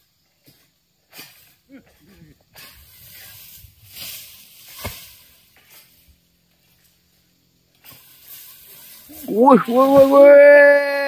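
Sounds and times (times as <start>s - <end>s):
leaves and undergrowth rustling: 0.0s - 11.0s.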